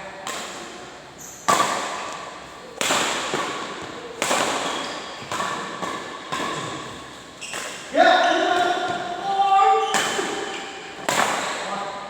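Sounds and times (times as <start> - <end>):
sharp hits echoing in a hall: 0.0 - 12.0.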